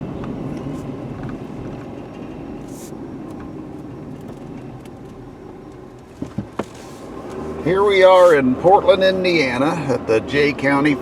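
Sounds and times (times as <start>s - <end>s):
vehicle running low rumble: 0.0s - 11.0s.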